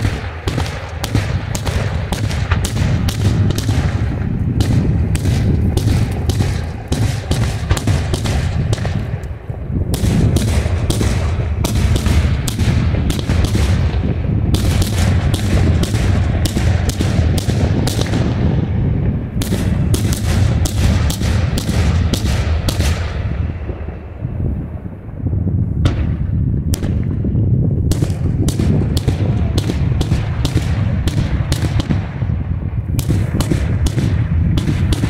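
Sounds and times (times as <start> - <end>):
fireworks bursting: 0.0 - 35.0
low rumble: 0.0 - 35.0.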